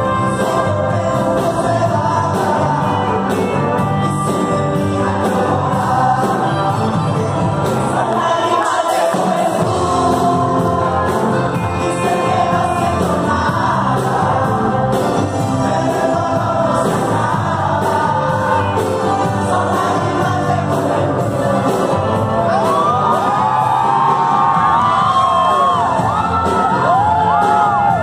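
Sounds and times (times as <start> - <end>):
man singing into microphone: 0.0 - 23.5
live band playing: 0.0 - 28.0.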